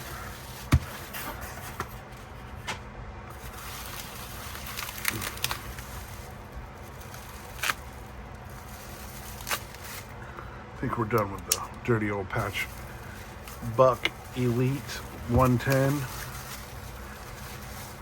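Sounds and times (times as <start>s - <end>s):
package scraping and rustling: 0.0s - 10.2s, 12.3s - 18.0s.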